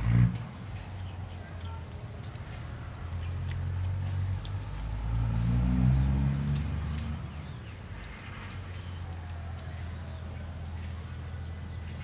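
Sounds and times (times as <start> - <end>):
vehicle engine passing by: 0.0 - 1.2, 2.4 - 12.0.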